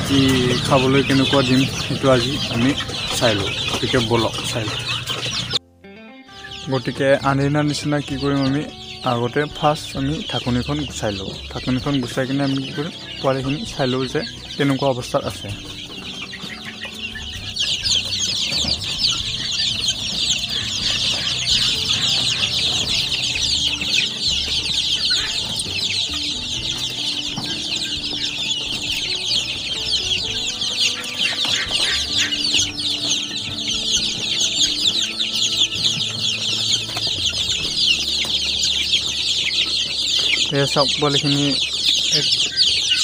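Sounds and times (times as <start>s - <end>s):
chicks peeping: 0.0s - 5.6s, 6.3s - 43.0s.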